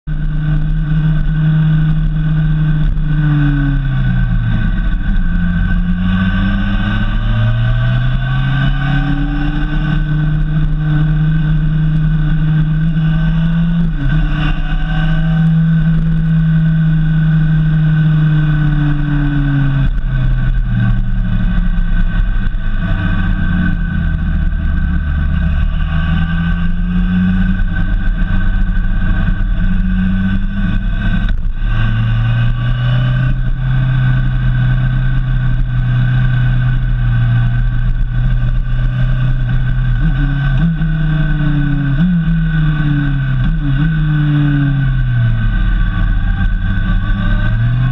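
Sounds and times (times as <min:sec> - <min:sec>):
motorcycle engine revving: 0:00.0 - 0:47.9
wind and road rumble: 0:00.0 - 0:47.9.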